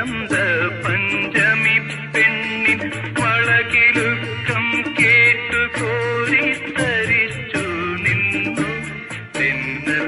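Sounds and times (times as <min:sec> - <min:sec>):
bass line: 0:00.0 - 0:10.0
keyboard melody: 0:00.0 - 0:10.0.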